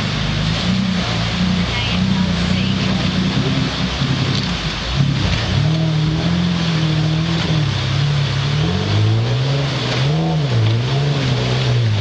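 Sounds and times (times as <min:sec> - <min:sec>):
vehicle engine revving: 0:00.0 - 0:12.0
water splashing around wheels: 0:00.0 - 0:12.0.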